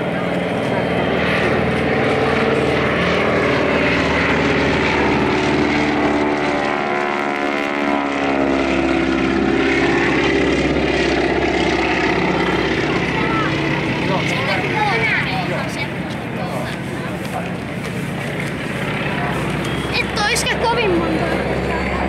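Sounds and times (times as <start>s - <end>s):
biplane engine and propeller droning: 0.0s - 22.0s.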